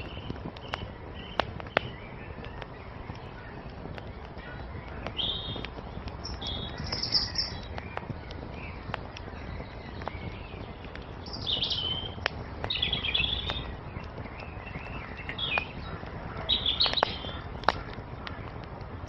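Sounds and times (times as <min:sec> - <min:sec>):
songbirds chirping: 0:00.0 - 0:19.0
wood fire crackling: 0:00.0 - 0:19.0.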